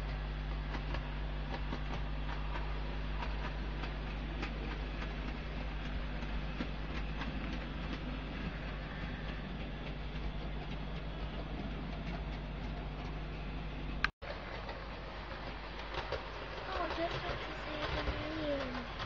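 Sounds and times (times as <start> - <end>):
model train motor hum: 0.0 - 19.0
wheels clicking on rail joints: 0.0 - 19.0.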